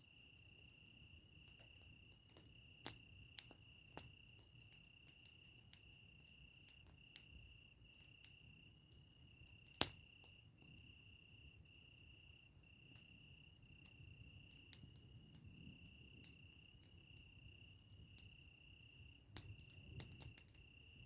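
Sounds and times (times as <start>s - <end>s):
campfire crackling: 0.0s - 21.0s
cricket trilling: 0.0s - 21.0s
fire popping: 0.0s - 21.0s.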